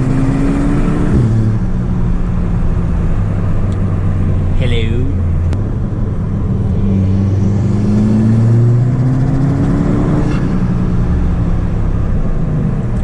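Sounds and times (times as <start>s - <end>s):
turbocharged car engine accelerating: 0.0s - 13.0s.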